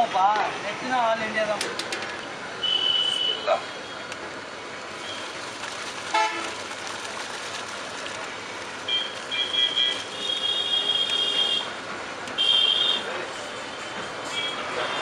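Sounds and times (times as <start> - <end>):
boiling water hissing: 1.2 - 15.0.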